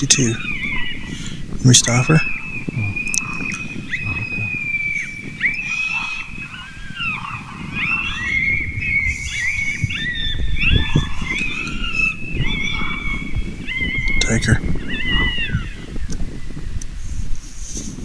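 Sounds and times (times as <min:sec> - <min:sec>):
coyotes howling and yipping: 0:00.0 - 0:18.0.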